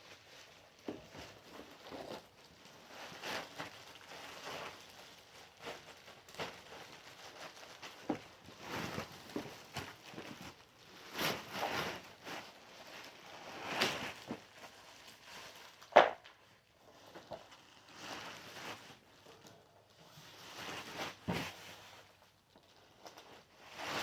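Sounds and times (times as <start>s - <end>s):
rustling and scraping: 0.0s - 24.0s.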